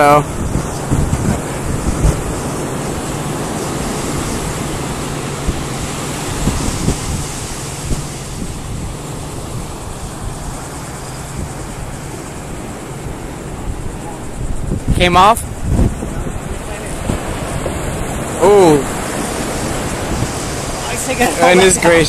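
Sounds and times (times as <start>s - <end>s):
surf breaking: 0.0s - 22.0s
wind buffeting microphone: 0.0s - 22.0s.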